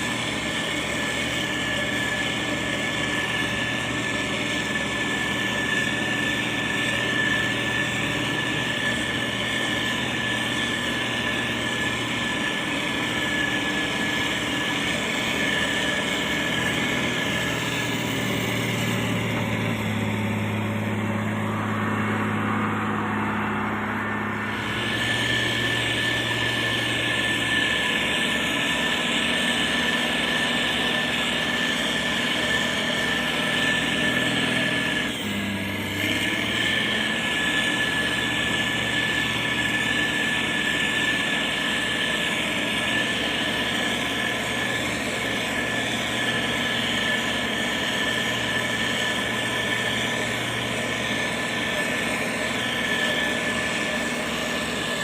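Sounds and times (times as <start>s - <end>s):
diesel engine running under load: 0.0s - 55.0s
high-pitched whine: 0.0s - 55.0s.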